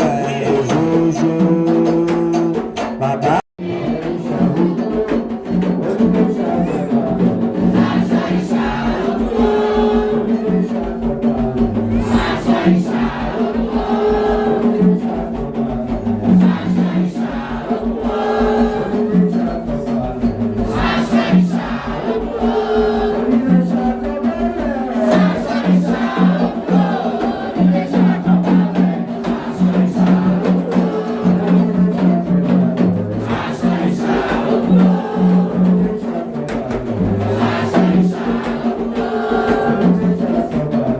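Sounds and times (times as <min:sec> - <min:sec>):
group of voices chanting and singing: 0:00.0 - 0:40.9
music with rhythmic pulse: 0:00.0 - 0:40.9.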